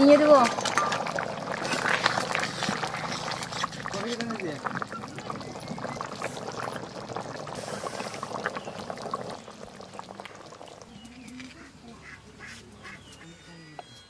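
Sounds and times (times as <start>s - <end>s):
curry bubbling in a metal pan: 0.0s - 11.5s.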